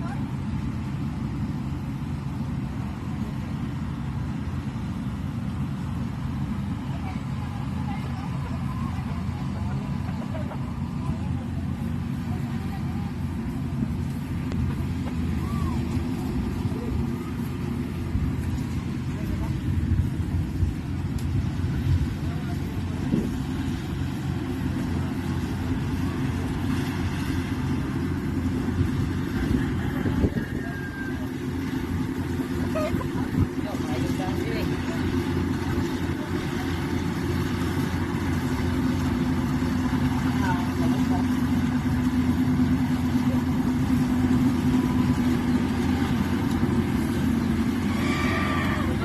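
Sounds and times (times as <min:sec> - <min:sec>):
combine harvester engine running: 0:00.0 - 0:49.0.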